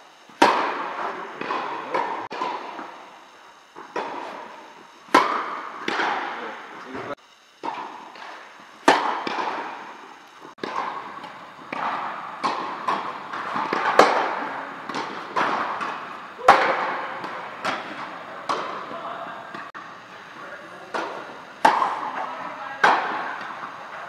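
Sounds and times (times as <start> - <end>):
tennis balls bouncing on hard court: 0.3 - 3.0, 3.7 - 19.7, 20.7 - 24.0
tennis balls struck by rackets: 0.3 - 24.0.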